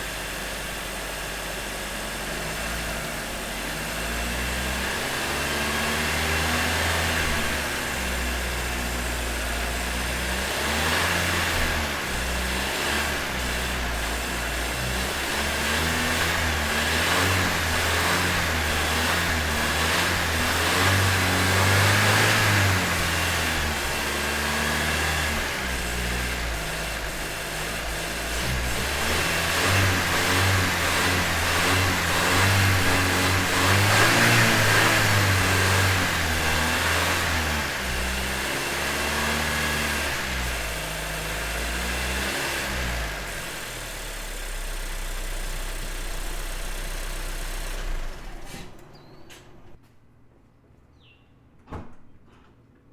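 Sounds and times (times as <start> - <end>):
car engine accelerating: 0.0 - 49.8.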